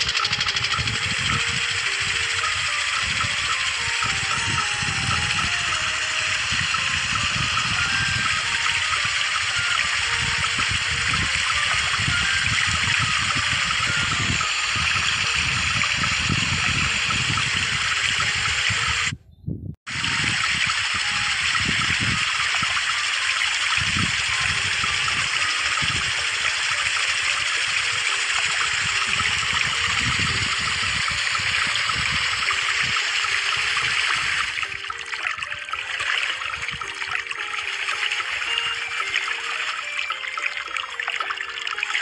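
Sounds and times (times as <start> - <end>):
water splashing into pond: 0.0 - 19.1, 19.9 - 42.0.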